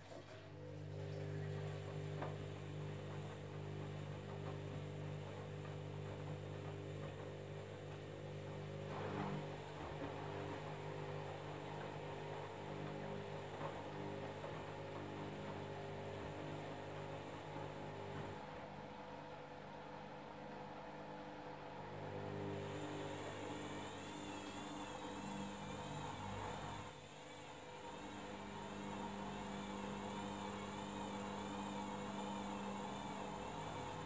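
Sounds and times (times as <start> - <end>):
washing machine motor hum: 0.0 - 34.0.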